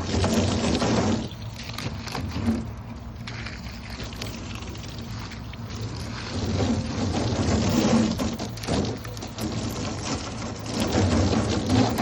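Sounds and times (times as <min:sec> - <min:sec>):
hose spraying water on plastic bin: 0:00.0 - 0:12.0
low hum: 0:00.0 - 0:12.0.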